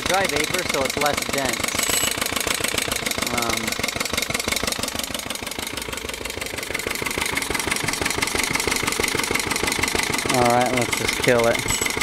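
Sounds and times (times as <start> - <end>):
small lawn mower engine running: 0.0 - 12.0.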